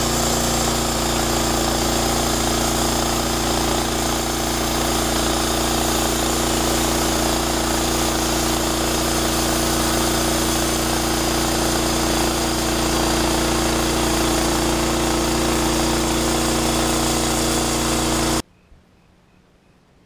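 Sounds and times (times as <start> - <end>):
band sawmill cutting log: 0.0 - 18.4.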